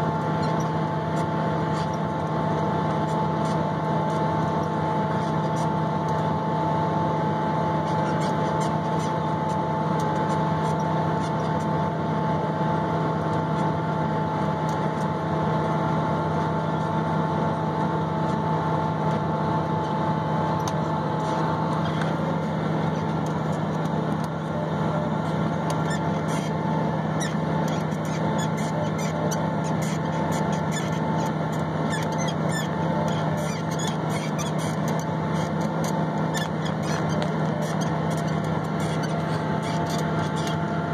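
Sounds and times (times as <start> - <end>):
steady whine: 0.0 - 40.9
tractor engine drone: 0.0 - 40.9.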